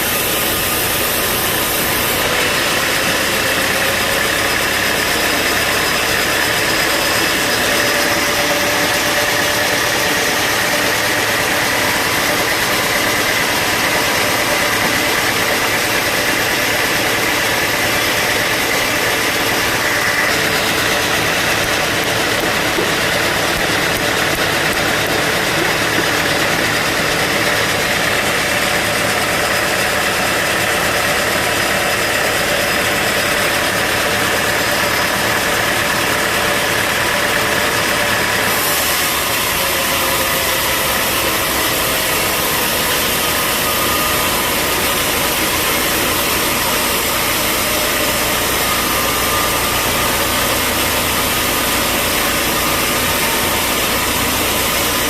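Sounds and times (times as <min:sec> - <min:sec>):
band saw machine noise: 0:00.0 - 0:55.0
high saw whine: 0:00.0 - 0:55.0.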